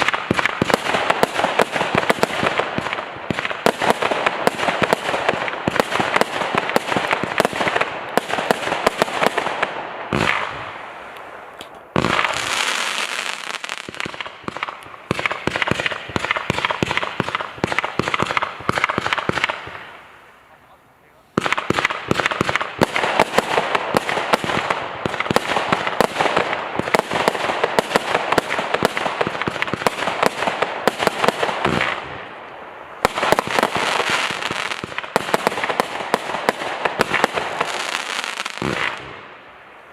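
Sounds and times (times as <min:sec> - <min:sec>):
loud fireworks bangs: 0:00.0 - 0:39.6
fireworks cracking: 0:00.0 - 0:39.9.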